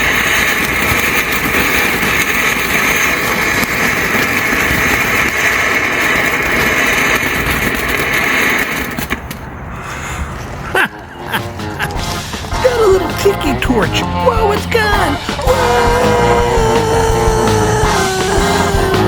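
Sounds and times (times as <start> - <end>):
dense crackling: 0.0 - 9.7, 10.6 - 19.0
firework fountain hissing sparks: 0.0 - 9.8, 10.5 - 19.0.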